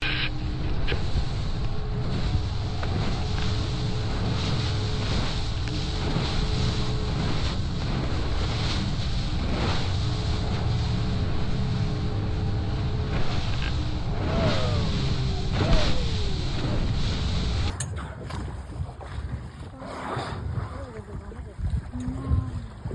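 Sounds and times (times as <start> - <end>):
boat engine running: 0.0 - 22.9
water noise: 0.0 - 22.9
wind: 0.0 - 22.9.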